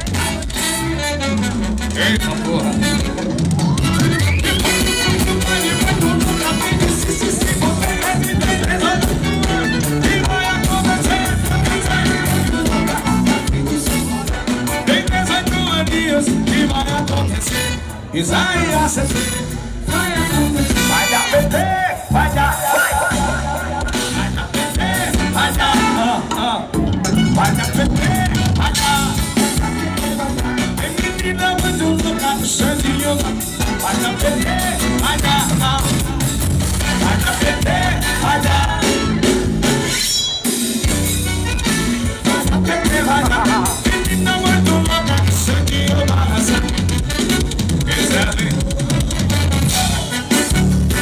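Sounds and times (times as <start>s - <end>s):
live band with horns and drums: 0.0s - 51.0s.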